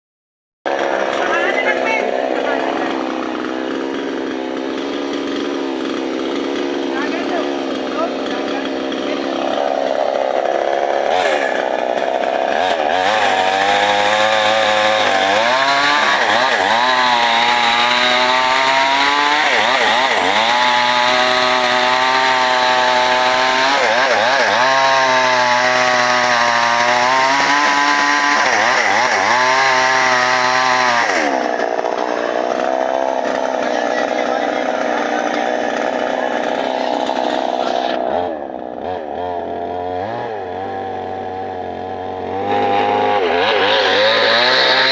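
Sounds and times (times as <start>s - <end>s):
chainsaw running: 0.7s - 44.9s.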